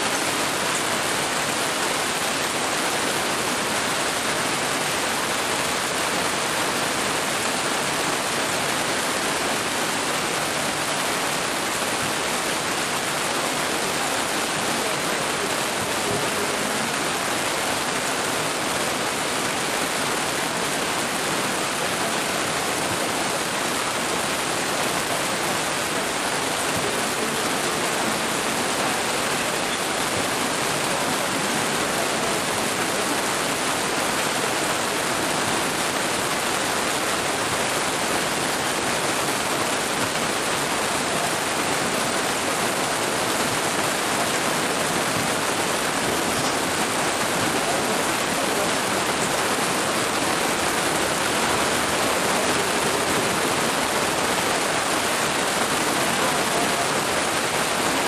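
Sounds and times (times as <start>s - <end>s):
heavy rain on grass: 0.0s - 58.0s.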